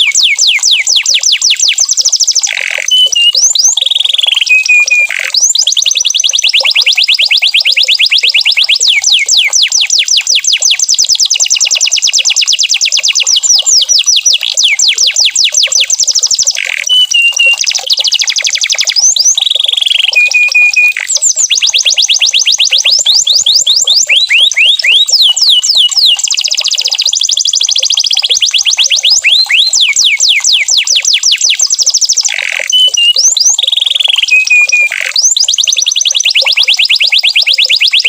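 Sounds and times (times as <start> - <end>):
canary whistled notes: 0.0 - 11.0, 12.5 - 38.0
canary trilling: 0.0 - 38.0.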